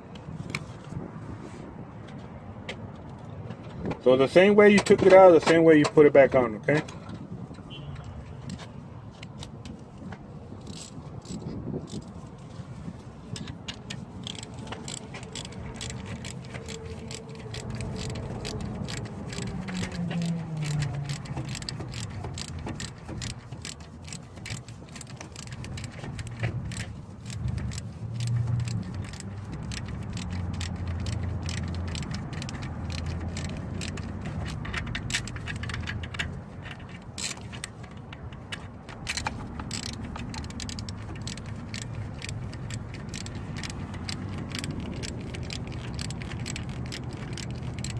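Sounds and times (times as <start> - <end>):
ratchet wrench clicking: 8.0 - 12.4, 13.0 - 47.9.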